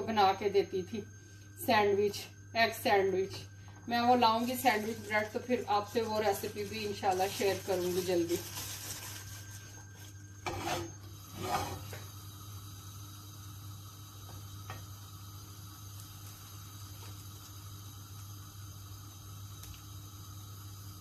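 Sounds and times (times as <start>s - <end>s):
bread toasting hiss: 0.0s - 21.0s.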